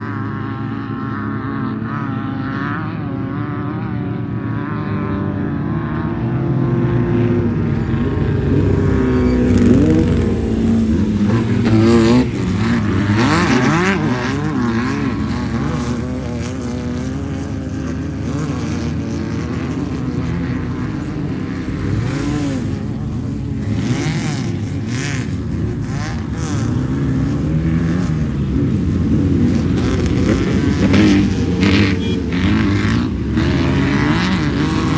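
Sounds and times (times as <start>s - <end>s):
race vehicle engines revving: 0.0s - 34.9s.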